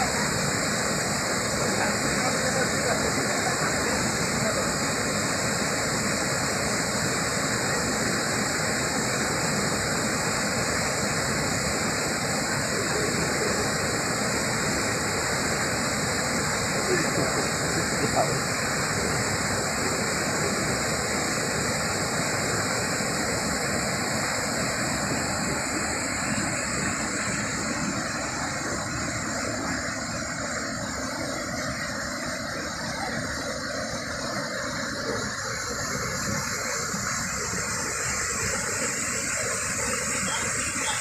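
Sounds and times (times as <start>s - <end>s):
stream rushing over stones: 0.0s - 41.0s.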